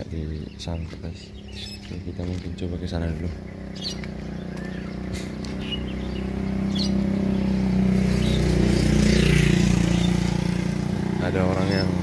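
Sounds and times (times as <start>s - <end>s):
motorcycle engine passing by: 0.0s - 12.0s.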